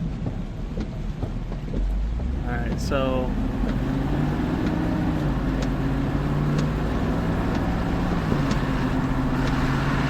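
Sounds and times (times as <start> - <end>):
car engine hum: 0.0 - 10.0
road rumble: 0.0 - 10.0.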